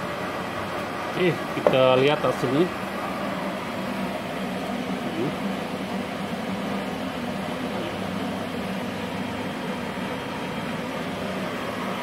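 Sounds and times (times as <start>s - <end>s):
machinery whirring hum: 0.0s - 12.0s.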